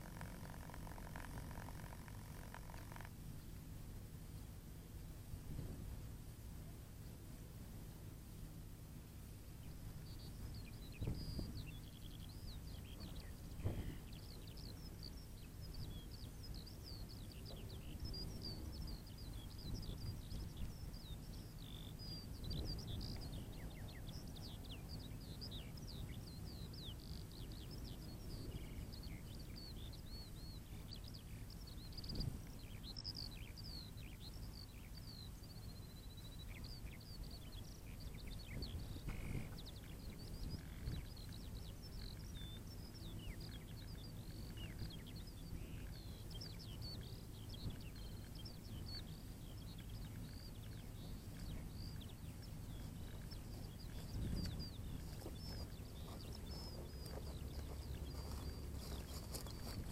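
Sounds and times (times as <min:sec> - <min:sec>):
wind rumble on microphone: 0:00.0 - 0:03.4, 0:05.1 - 0:07.2, 0:09.4 - 0:59.9
faint birdsong: 0:00.0 - 0:59.9.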